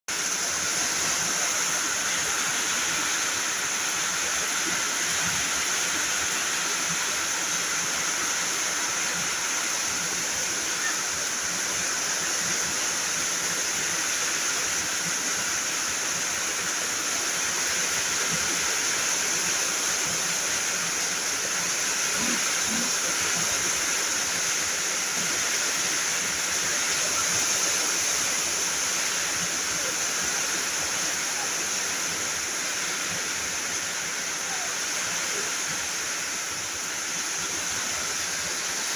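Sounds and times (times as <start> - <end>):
heavy rain falling: 0.1 - 38.9.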